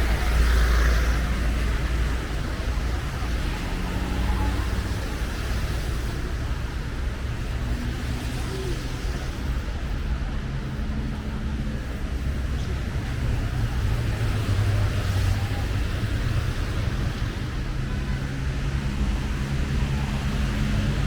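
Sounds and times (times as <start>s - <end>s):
car engines humming: 0.0s - 21.0s.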